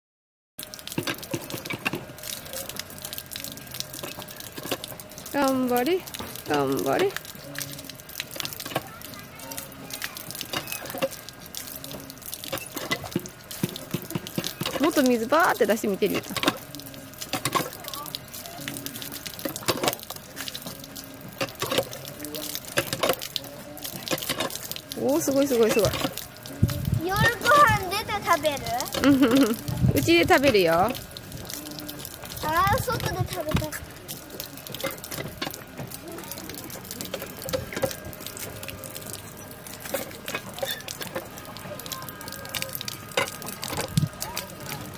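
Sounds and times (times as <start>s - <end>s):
water gushing and splashing: 0.6s - 44.9s
pump handle strokes: 0.8s - 44.9s.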